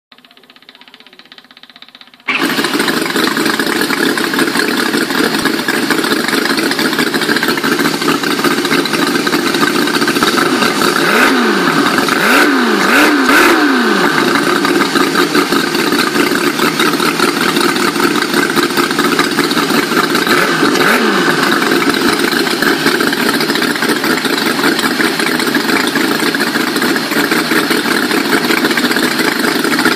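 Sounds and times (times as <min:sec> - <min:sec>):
model engine idling and revving: 0:00.2 - 0:29.9.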